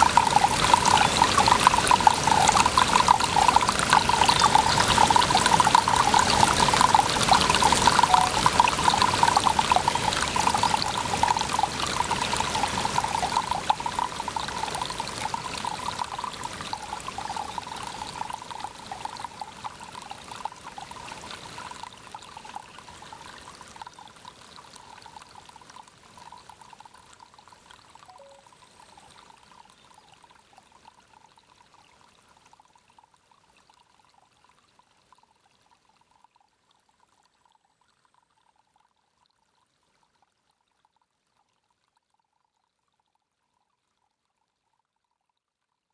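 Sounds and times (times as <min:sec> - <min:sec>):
water pouring and trickling: 0:00.0 - 0:39.3.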